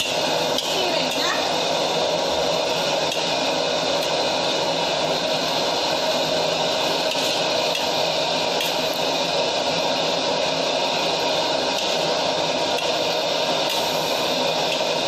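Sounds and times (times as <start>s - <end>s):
gas burner rushing: 0.0s - 15.0s.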